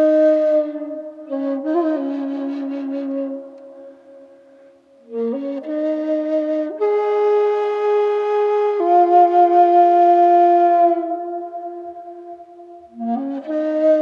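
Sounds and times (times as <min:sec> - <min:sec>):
calm flute-like music: 0:00.0 - 0:14.0.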